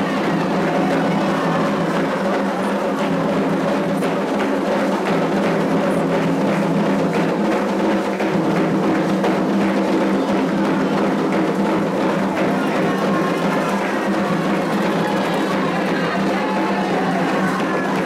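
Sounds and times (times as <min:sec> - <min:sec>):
hand drums playing: 0:00.0 - 0:18.0.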